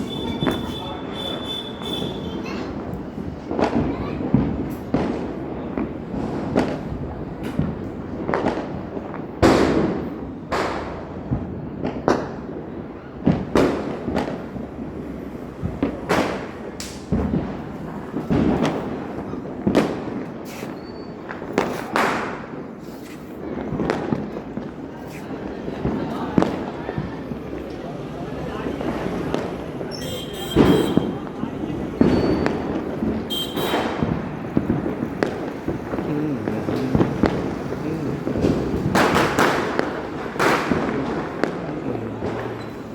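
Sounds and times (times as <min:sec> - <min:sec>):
firecrackers banging: 0:00.0 - 0:42.9.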